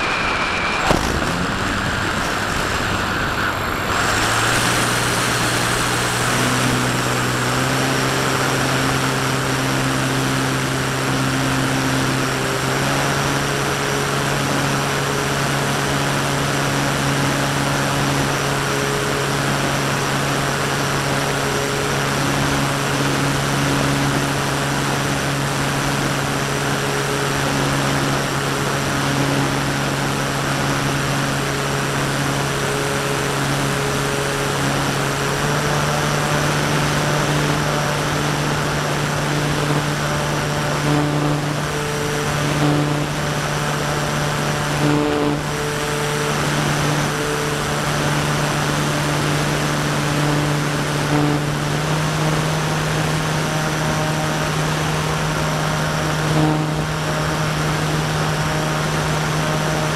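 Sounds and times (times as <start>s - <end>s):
electric motor and propeller: 0.0s - 59.9s.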